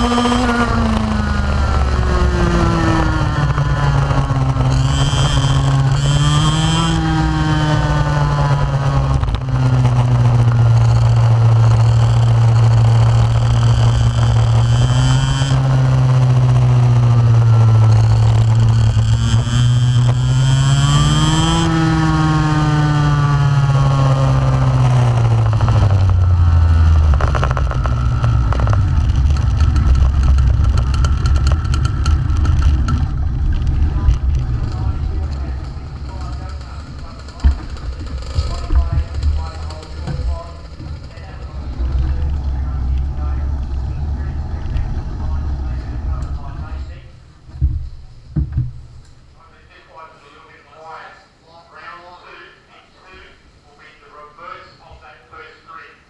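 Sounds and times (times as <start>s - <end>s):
kart engine revving: 0.0s - 49.4s.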